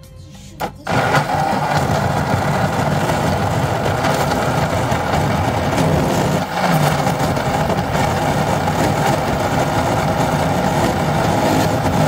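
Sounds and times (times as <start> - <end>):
electric blender running: 0.6 - 12.0.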